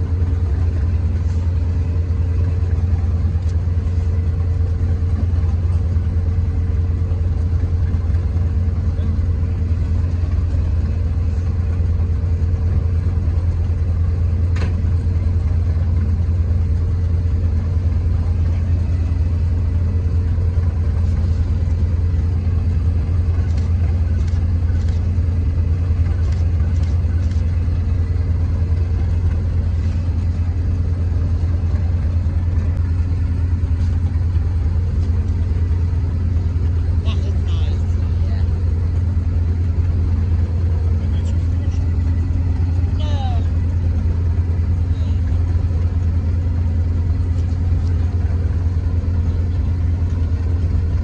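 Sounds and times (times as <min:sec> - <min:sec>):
diesel train engine idling: 0:00.0 - 0:51.0.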